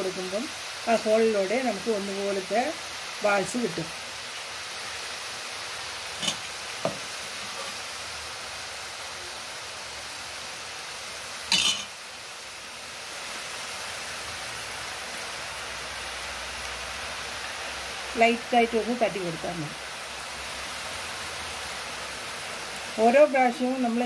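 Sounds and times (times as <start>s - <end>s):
batter sizzling in hot oil: 0.0s - 24.0s.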